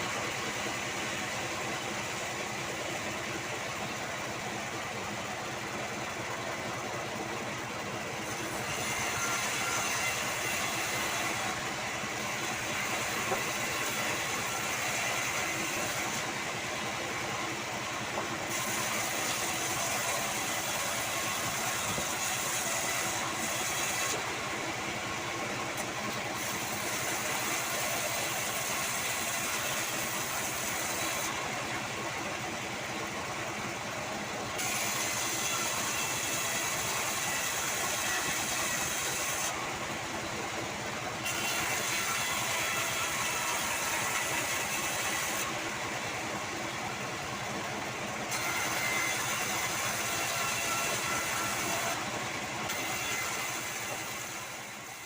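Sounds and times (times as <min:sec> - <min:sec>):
band sawmill running: 0:00.0 - 0:55.0.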